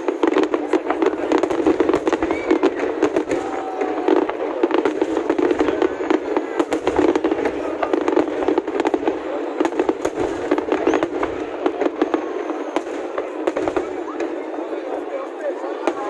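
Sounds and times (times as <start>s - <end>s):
fireworks bursting and crackling: 0.0s - 16.0s.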